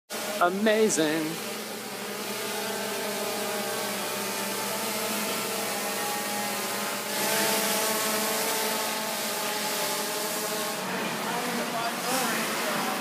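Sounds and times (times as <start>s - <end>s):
drone propellers whining: 0.2s - 13.0s.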